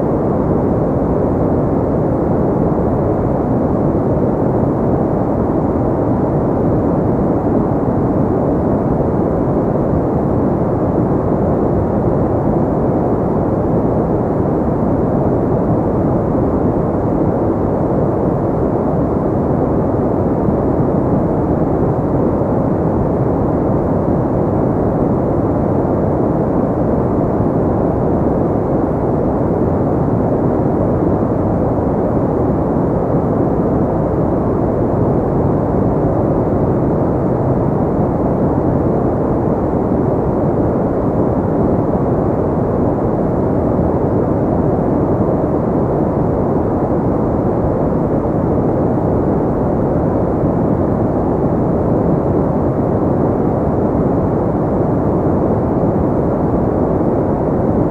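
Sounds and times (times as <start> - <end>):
low deep white noise: 0.0 - 57.9.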